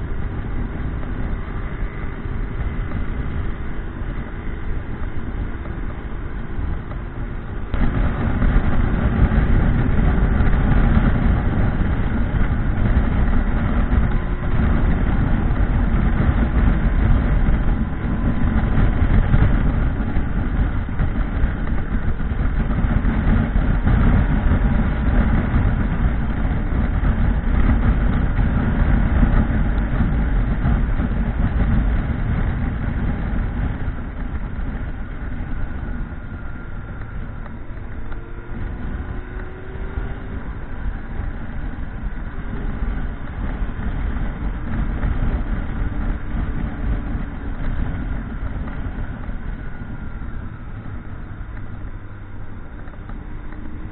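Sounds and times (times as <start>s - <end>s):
motorcycle engine running: 0.0s - 53.9s
wind rumble on microphone: 0.0s - 53.9s.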